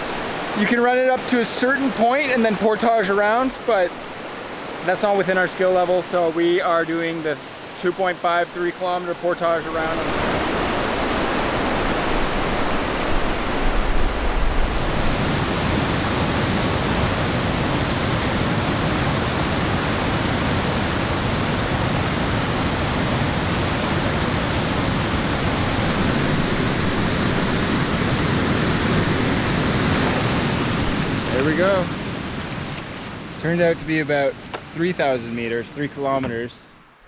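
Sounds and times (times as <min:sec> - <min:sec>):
waterfall and rapids rushing: 0:00.0 - 0:37.0.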